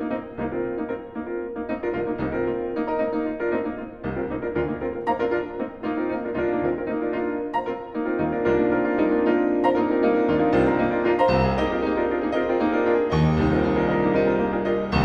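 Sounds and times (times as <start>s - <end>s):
classical piano music: 0.0s - 15.0s.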